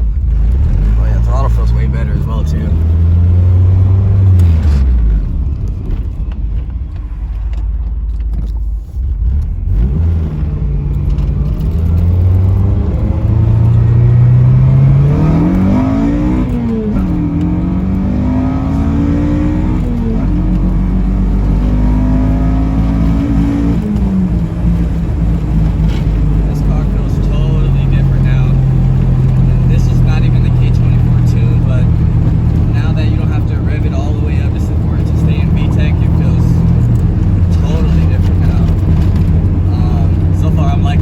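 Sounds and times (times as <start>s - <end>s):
car engine accelerating through gears: 0.0s - 41.0s.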